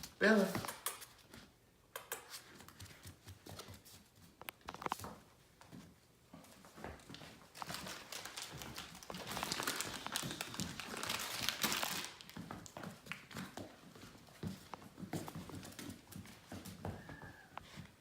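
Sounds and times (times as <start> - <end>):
puppy claws tapping on hard floor: 0.0 - 5.2, 6.8 - 17.7.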